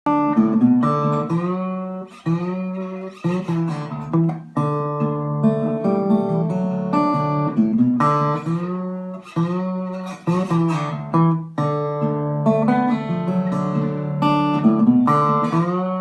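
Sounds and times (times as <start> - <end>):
acoustic guitar strumming: 0.1 - 16.0.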